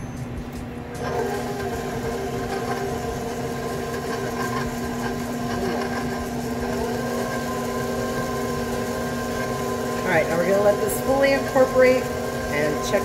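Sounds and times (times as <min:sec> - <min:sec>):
stand mixer running: 0:00.9 - 0:13.0.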